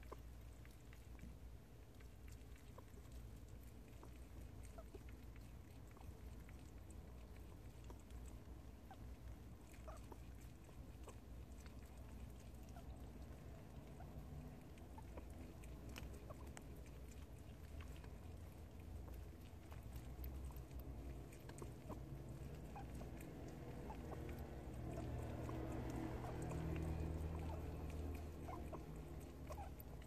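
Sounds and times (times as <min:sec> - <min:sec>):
small animal nibbling crunches: 0:00.0 - 0:30.0.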